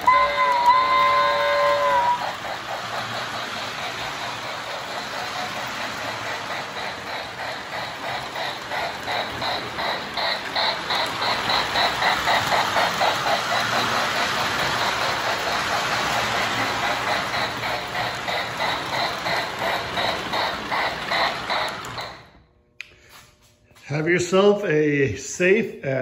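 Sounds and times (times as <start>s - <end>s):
model steam locomotive chuffing: 0.0s - 22.4s
wheels clattering on rails: 0.0s - 22.4s.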